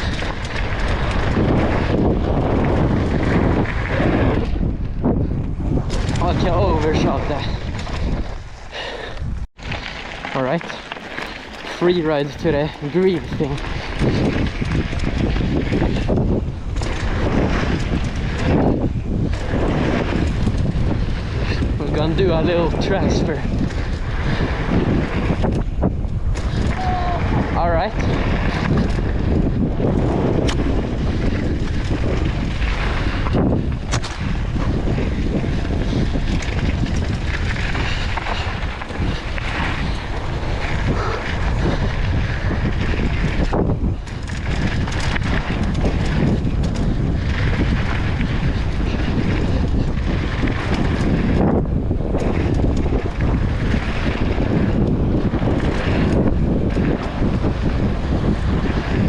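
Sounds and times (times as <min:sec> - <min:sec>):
bike rolling and rattling on dirt: 0:00.0 - 0:59.0
wind buffeting microphone: 0:00.0 - 0:59.0.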